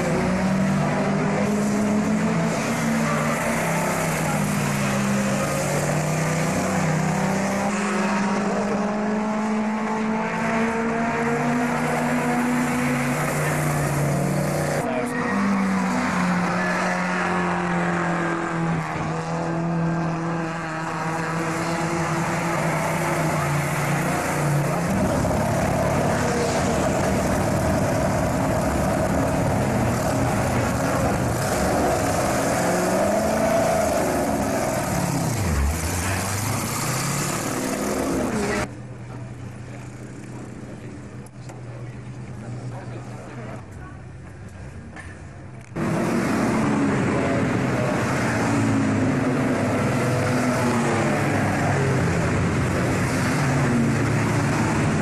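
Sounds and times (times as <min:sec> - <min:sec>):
racing car engines passing: 0:00.0 - 0:55.0.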